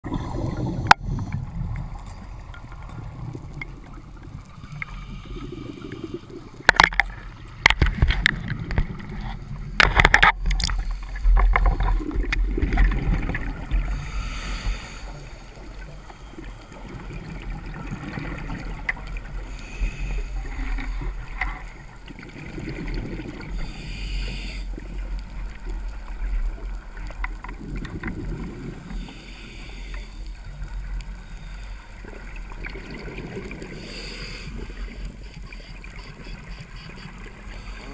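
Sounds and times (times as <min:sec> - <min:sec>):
gurgling bubbles hissing: 0:00.0 - 0:07.6, 0:10.7 - 0:26.8, 0:27.5 - 0:37.9.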